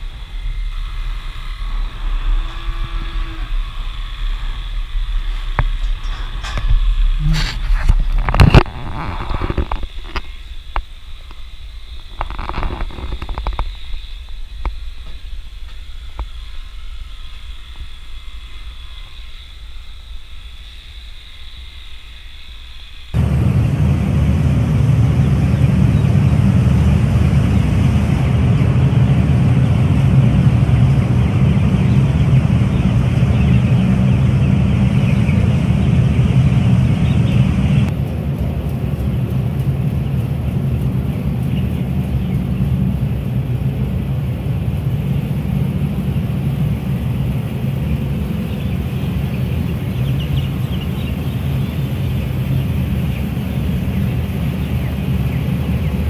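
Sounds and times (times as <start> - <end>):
ventilation fans and heaters rumbling: 0.0 - 56.0.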